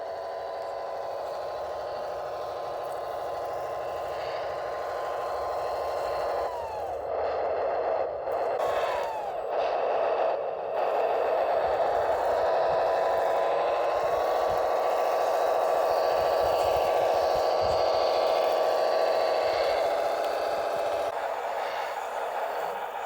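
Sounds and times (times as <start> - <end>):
simulated diesel engine revving: 0.0 - 23.0.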